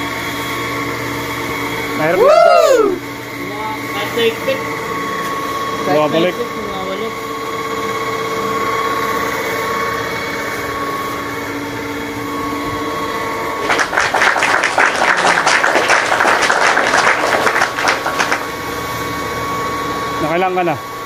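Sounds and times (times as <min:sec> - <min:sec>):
machine motor hum: 0:01.3 - 0:21.0.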